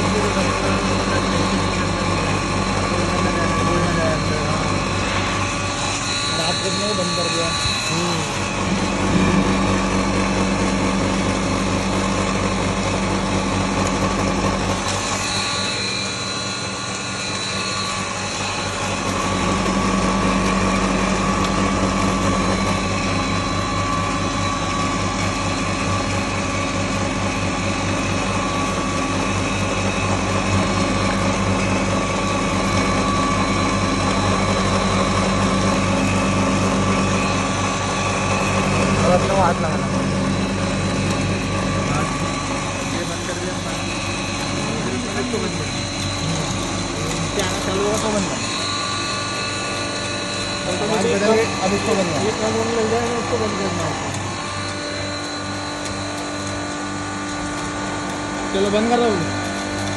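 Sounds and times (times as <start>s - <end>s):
grinding mill grinding corn: 0.0s - 59.9s.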